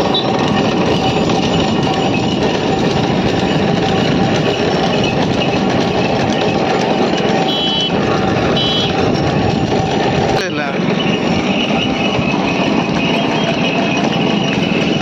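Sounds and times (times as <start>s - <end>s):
wooden cart rattling on road: 0.0s - 15.0s.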